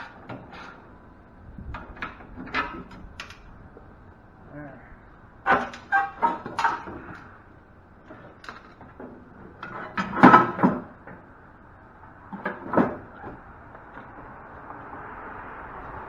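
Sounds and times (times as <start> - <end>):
metal panels clanking: 0.0 - 4.1, 5.1 - 14.4.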